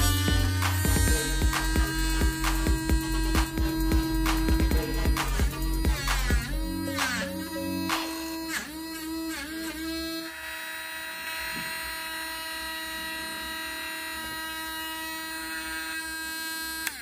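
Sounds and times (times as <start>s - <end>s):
small electric motor whine: 0.0s - 17.0s.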